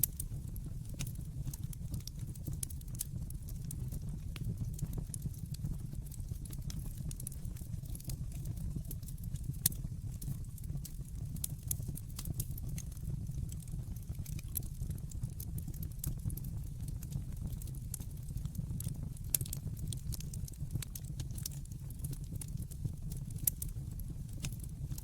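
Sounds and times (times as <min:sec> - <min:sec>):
wood fire crackling in fireplace: 0:00.0 - 0:25.0.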